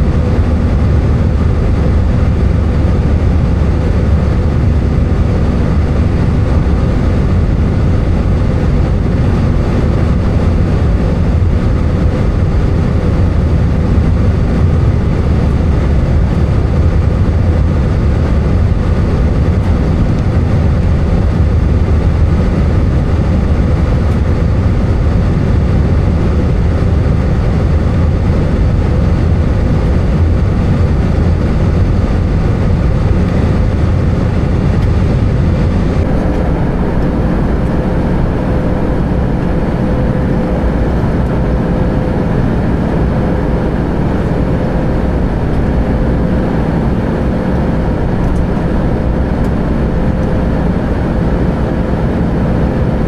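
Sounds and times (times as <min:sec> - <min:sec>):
faint steady hum: 0:00.0 - 0:53.0
jet engine cabin drone: 0:00.0 - 0:53.0.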